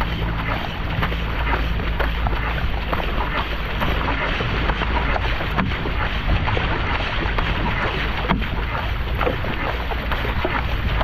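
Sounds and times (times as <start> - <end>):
paddle blades splashing: 0.0 - 11.0
wind buffeting microphone: 0.0 - 11.0.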